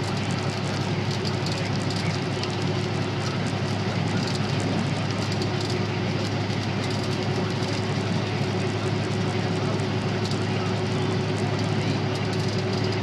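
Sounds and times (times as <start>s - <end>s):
constant low hum: 0.0s - 13.0s
road and engine noise in cab: 0.0s - 13.0s.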